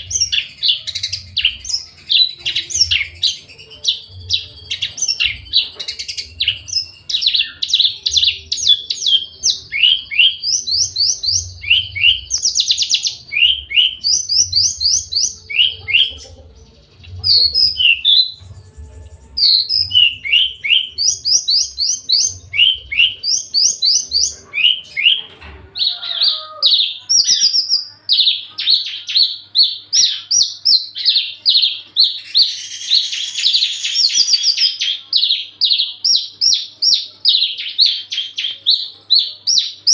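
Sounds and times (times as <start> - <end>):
lark singing chirping trills: 0.0 - 39.9.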